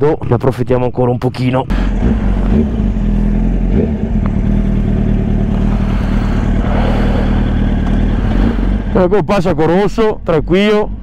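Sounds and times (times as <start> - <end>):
motorcycle engine running: 1.7 - 11.0.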